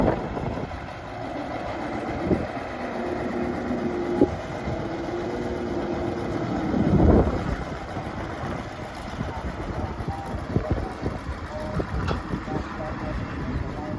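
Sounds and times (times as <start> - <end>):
heavy machinery engine humming: 0.0 - 13.9.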